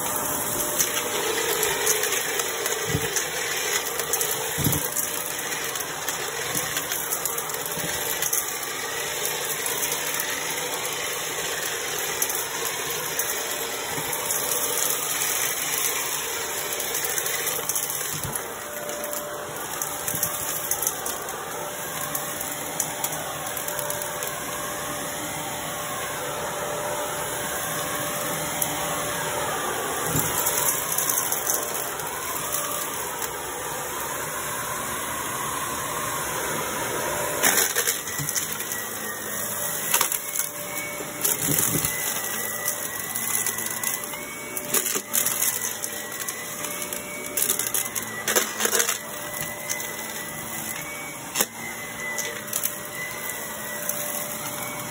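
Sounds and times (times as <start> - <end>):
small objects rattling in vacuum: 0.0 - 25.2, 26.6 - 33.7, 37.2 - 54.9
vacuum cleaner running: 0.0 - 54.9.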